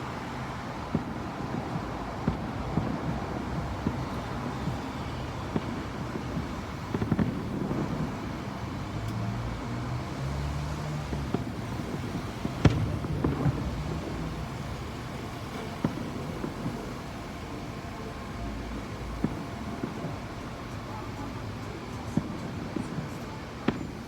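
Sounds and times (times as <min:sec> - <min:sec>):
distant fireworks bangs: 0:00.0 - 0:24.0.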